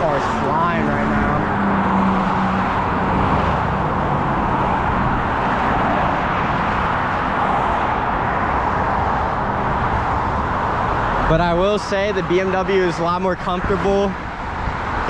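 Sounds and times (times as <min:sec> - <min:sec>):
fast highway traffic: 0:00.0 - 0:15.0.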